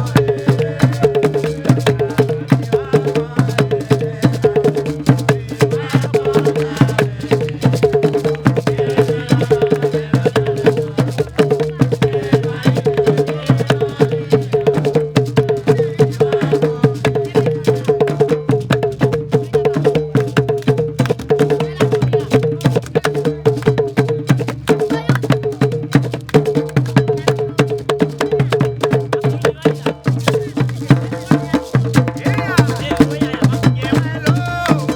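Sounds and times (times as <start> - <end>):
hand drum ensemble: 0.0 - 34.9
talking drum: 0.0 - 34.9.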